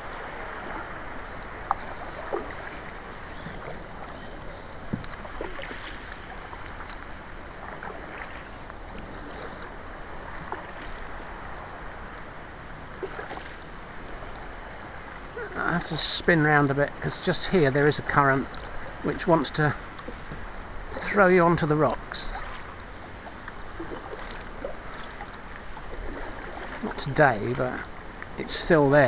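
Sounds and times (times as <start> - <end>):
paddle strokes splashing: 0.0 - 29.0
rush of wind and water: 0.0 - 29.0
water washing along hull: 0.0 - 29.0.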